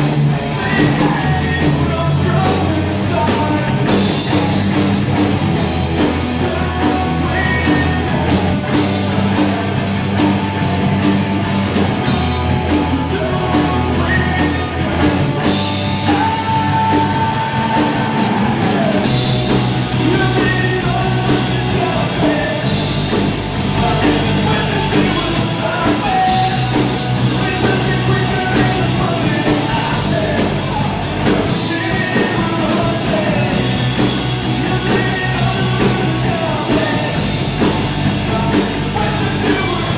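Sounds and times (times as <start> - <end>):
person singing: 0.0 - 4.9, 6.0 - 11.1, 12.0 - 39.9
drums with cymbal hits: 0.0 - 39.9
electric bass: 0.0 - 39.9
electric guitar: 0.0 - 39.9.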